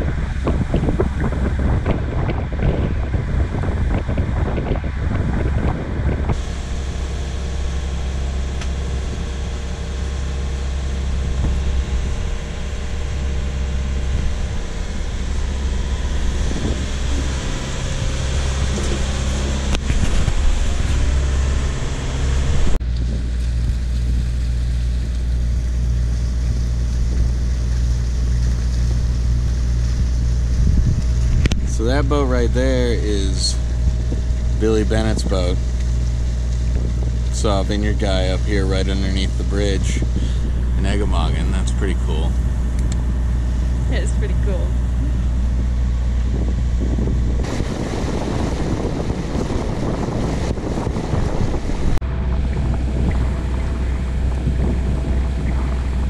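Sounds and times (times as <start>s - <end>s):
boat engine droning: 0.0s - 56.0s
wind buffeting microphone: 0.0s - 56.0s.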